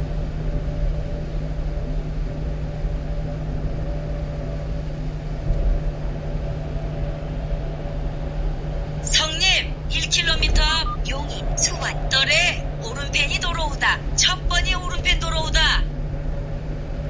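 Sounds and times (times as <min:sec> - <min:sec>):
truck engine hum: 0:00.0 - 0:17.0
road noise: 0:01.2 - 0:17.0.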